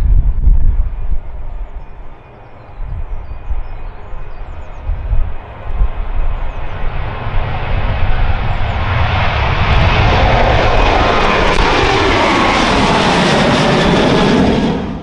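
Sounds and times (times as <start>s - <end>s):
jet taking off overhead: 0.0s - 15.0s.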